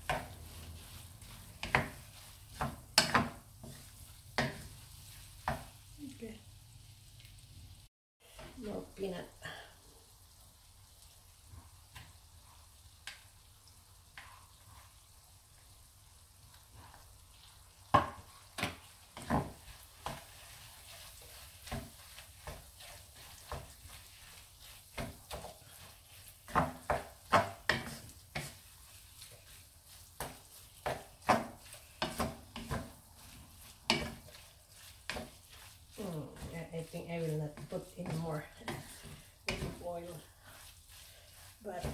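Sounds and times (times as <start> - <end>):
wooden spatula scraping paste in pan: 0.0 - 6.3, 8.2 - 9.6, 14.1 - 15.8, 16.4 - 41.9
faint steady sizzle: 0.0 - 41.9.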